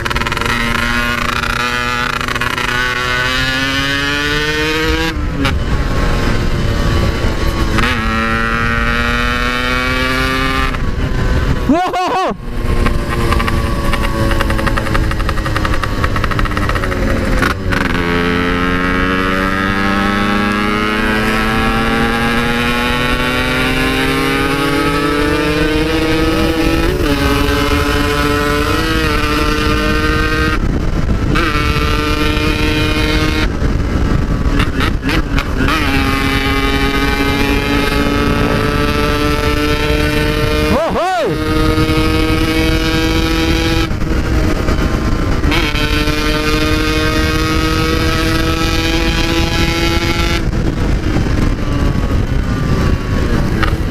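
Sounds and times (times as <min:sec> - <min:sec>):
two-stroke motorcycle engine accelerating: 0:00.0 - 0:53.9
wind rushing over microphone: 0:00.0 - 0:53.9.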